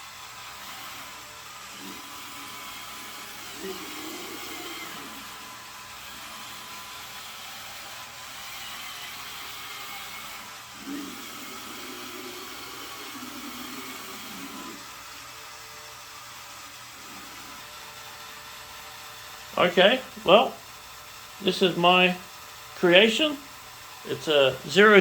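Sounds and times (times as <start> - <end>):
toy electric motors and gears whirring: 0.0 - 25.0.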